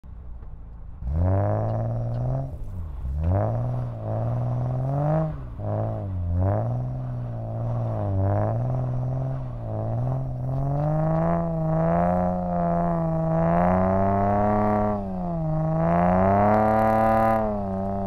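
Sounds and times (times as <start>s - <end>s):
car engine revving: 0.8s - 18.0s.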